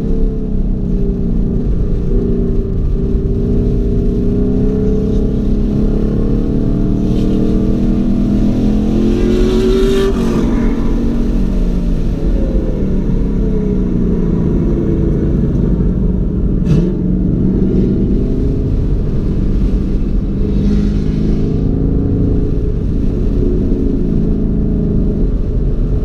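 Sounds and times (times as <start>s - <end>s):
car engine revving in cabin: 0.0s - 26.0s.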